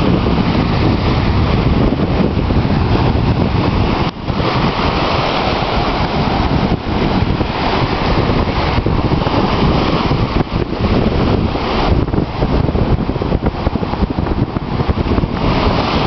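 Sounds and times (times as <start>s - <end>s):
ocean surf breaking: 0.0s - 16.0s
wind rumble on microphone: 0.0s - 16.0s.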